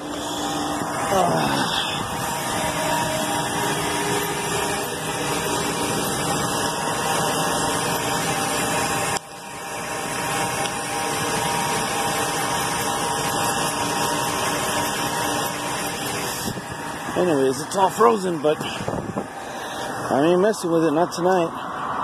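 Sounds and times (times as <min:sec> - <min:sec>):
air-conditioning fan whirring: 0:00.0 - 0:22.0.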